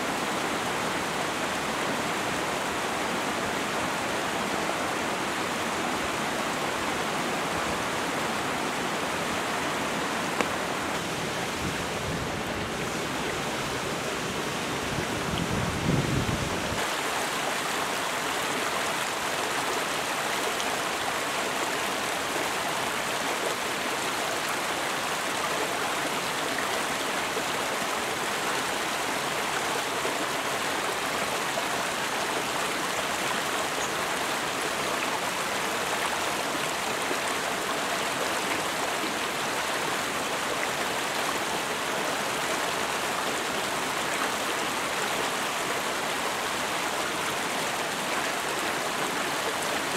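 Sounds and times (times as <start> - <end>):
stream rushing over boulders: 0.0 - 49.9.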